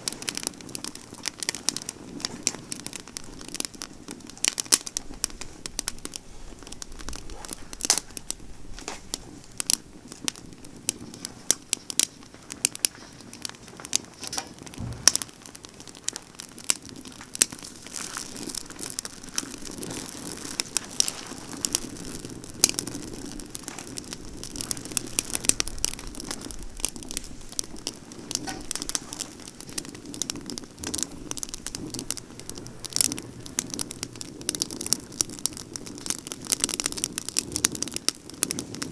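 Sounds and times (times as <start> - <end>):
campfire crackling and popping: 0.0 - 38.9
low rush of flame: 0.0 - 38.9.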